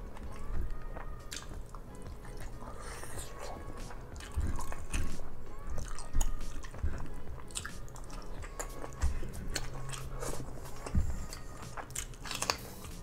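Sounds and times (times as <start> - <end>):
person chewing squid: 0.0 - 13.0.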